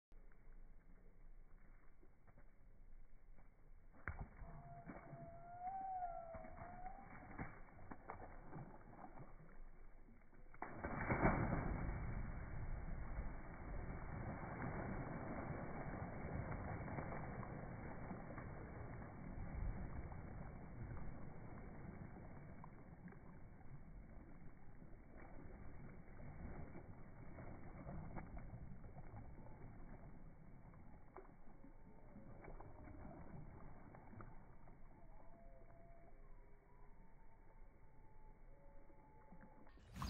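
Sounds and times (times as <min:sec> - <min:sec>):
dog splashing in river: 0:00.2 - 0:38.0, 0:39.2 - 0:40.0.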